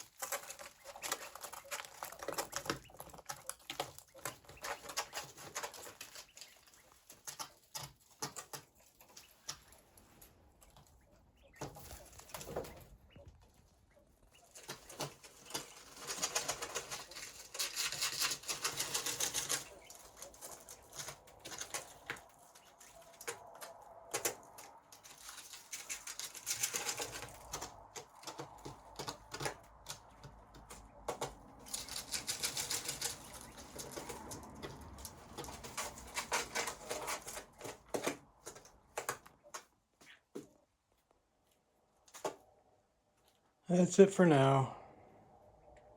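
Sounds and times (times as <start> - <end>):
quail pecking clicks: 0.0 - 43.5.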